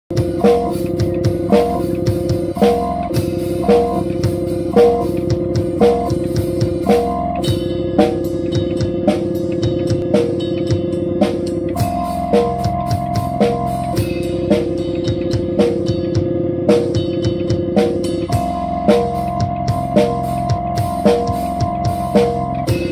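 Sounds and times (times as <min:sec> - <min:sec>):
drum kit slow beat: 0:00.1 - 0:22.9
electric guitar chords: 0:00.1 - 0:22.9.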